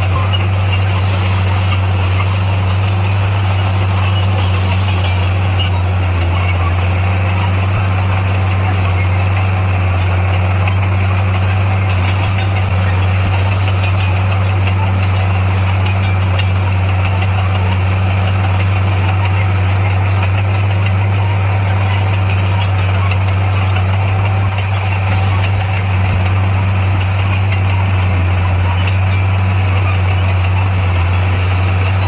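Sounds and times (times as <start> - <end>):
heavy diesel engine droning: 0.0 - 32.0.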